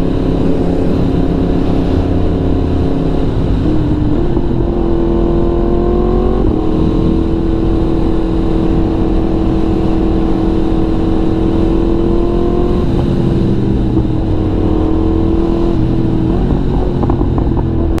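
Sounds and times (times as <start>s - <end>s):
motorcycle engine cruising: 0.0s - 18.0s
road noise: 0.0s - 18.0s.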